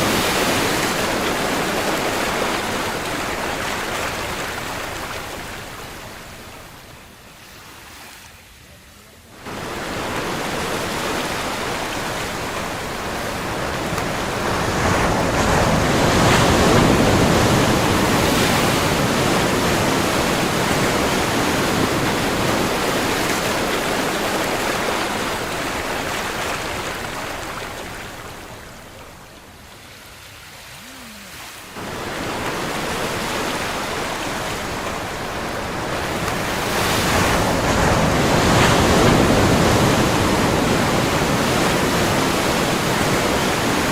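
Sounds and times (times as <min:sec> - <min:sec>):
waves breaking: 0:00.0 - 0:43.9.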